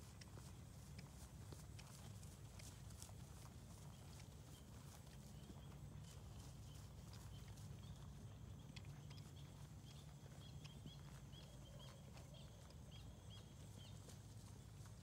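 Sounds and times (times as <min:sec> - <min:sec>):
horse hoofbeats on grass: 0:00.0 - 0:15.0.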